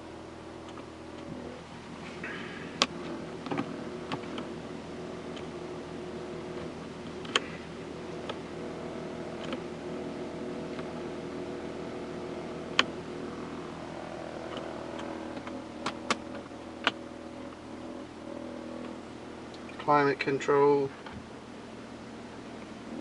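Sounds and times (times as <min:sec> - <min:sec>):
diesel engine idling inside car: 0:00.0 - 0:23.0.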